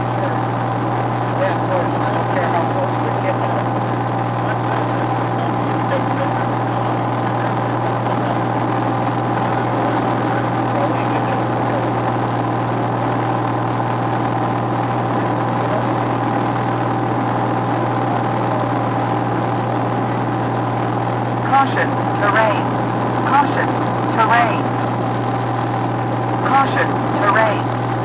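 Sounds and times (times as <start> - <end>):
aircraft engine and propeller drone: 0.0 - 28.0.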